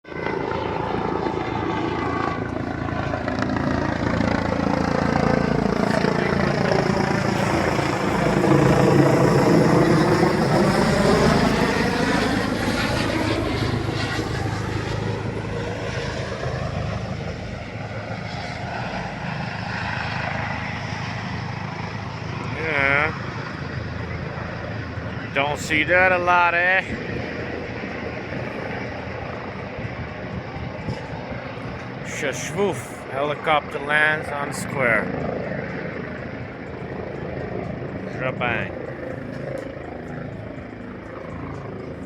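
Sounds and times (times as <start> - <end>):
helicopter rotor and turbine: 0.0 - 42.0.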